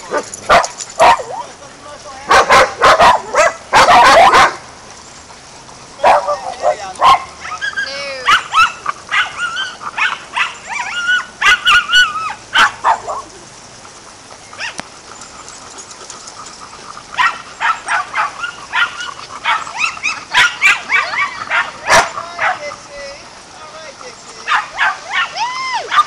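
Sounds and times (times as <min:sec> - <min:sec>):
dogs barking and yipping: 0:00.0 - 0:26.0.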